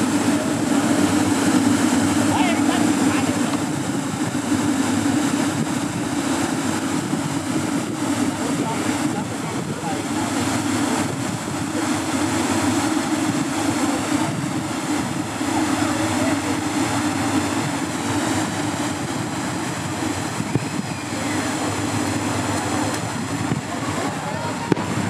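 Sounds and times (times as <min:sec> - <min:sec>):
drones hovering humming: 0:00.0 - 0:25.0.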